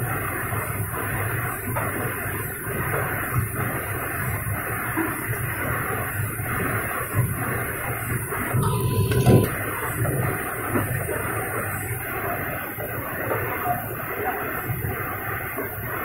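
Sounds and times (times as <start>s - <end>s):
filling machine hum and rattle: 0.0s - 13.9s.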